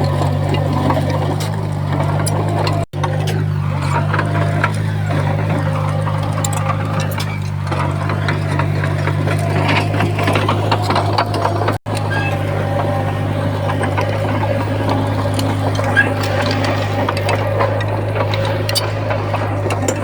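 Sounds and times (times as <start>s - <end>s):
heavy diesel engine running: 0.0s - 20.0s
machinery clanking and rattling: 0.0s - 20.0s.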